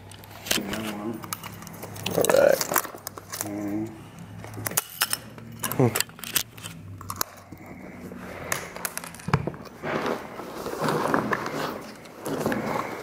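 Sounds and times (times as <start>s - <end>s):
rustling and scraping: 0.1s - 13.0s.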